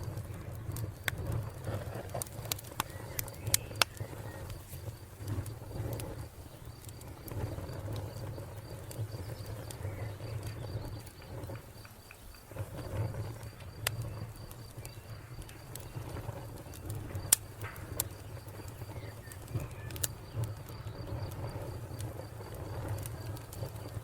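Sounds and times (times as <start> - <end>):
wood fire crackling and popping: 0.0 - 24.0
cricket chirping: 0.1 - 24.0.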